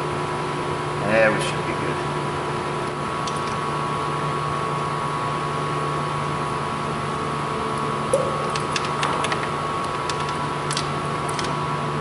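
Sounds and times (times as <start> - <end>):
mechanical hum with high tones: 0.0 - 12.0.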